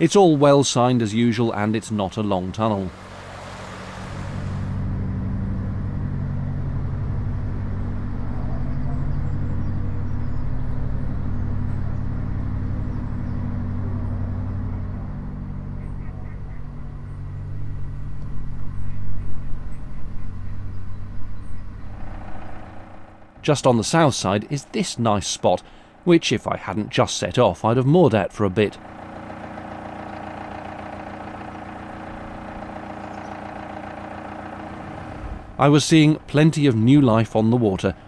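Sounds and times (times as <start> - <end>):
boat engine chugging: 0.0 - 38.0.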